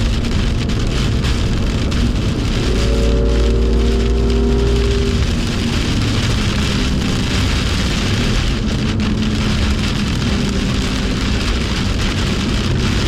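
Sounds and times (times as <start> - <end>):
car engine at speed: 0.0 - 13.0
heavy rain and tyre spray: 0.0 - 13.0.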